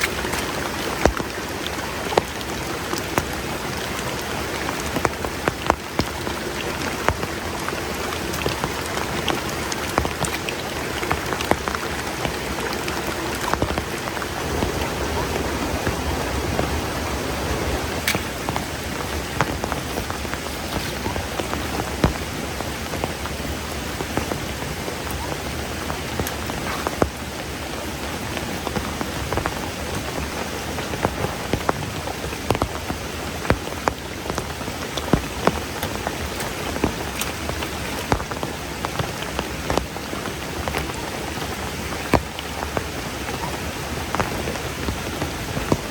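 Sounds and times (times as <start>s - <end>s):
raindrops ticking on surface: 0.0s - 45.9s
steady rain hiss: 0.0s - 45.9s.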